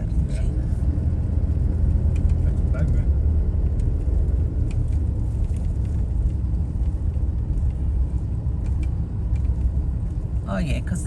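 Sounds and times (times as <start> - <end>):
car road noise and engine rumble: 0.0 - 11.0.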